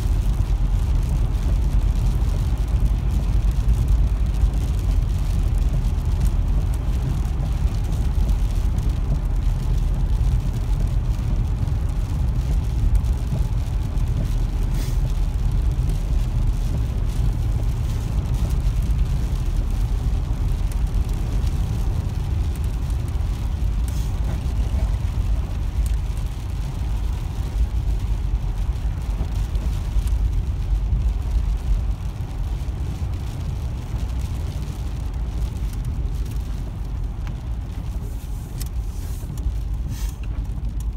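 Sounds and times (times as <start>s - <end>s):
rain on car: 0.0s - 40.9s
tyre and road noise: 0.0s - 40.9s.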